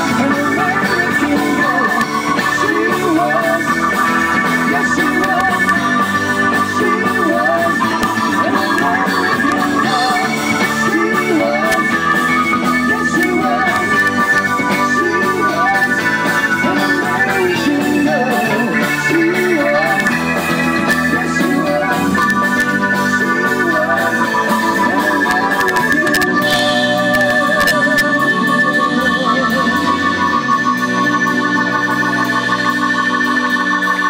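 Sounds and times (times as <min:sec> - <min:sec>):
live rock band music: 0:00.0 - 0:34.0.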